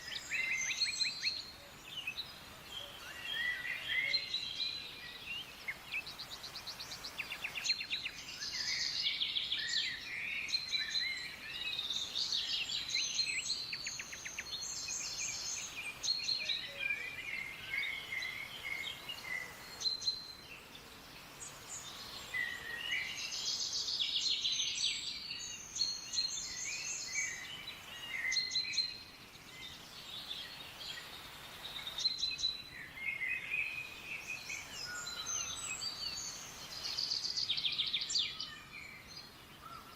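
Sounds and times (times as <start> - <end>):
steady faint hiss: 0.0 - 39.9
wild birds singing and calling: 0.0 - 39.9.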